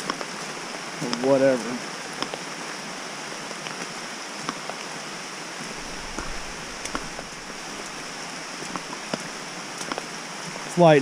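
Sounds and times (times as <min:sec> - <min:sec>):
raindrops ticking on surface: 0:00.0 - 0:04.9, 0:05.6 - 0:11.0
heavy rain pouring: 0:00.0 - 0:11.0.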